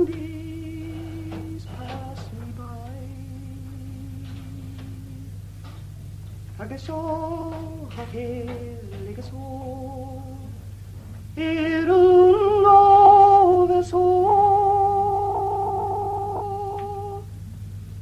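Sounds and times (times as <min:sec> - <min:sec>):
woman singing unaccompanied: 0:00.0 - 0:05.4, 0:06.6 - 0:10.6, 0:11.4 - 0:17.3.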